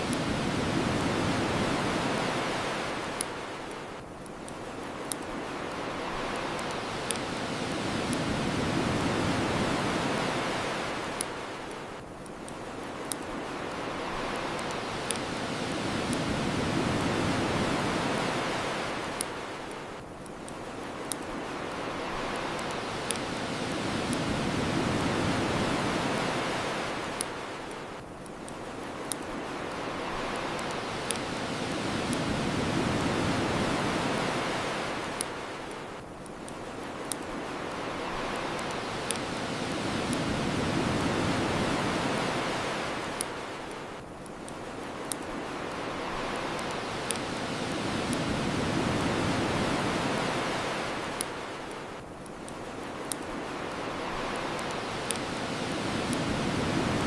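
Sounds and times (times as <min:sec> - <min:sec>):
bonfire crackling: 0:00.0 - 0:57.0
ocean waves washing onto shore: 0:00.0 - 0:57.0.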